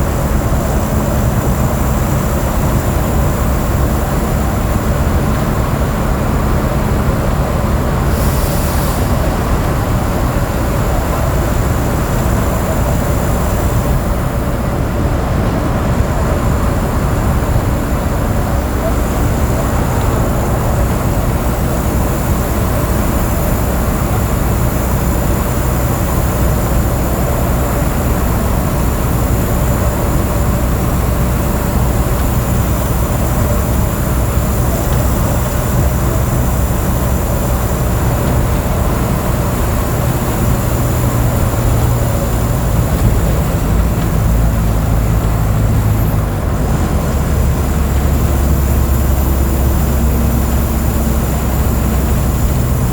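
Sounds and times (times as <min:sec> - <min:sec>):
bus diesel engine droning: 0:00.0 - 0:52.9
road noise: 0:00.0 - 0:52.9.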